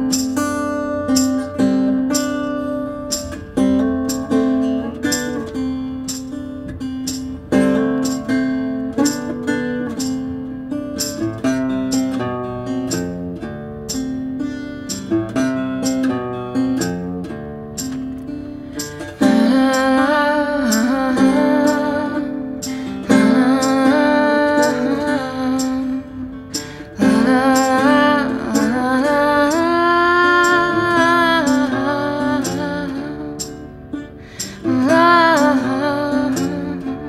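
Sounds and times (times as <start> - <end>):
acoustic guitar plucked notes: 0.0 - 37.0.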